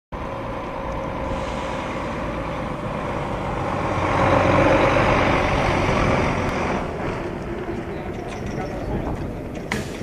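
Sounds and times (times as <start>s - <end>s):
road noise: 0.1s - 10.0s
race truck driving past: 0.2s - 10.0s.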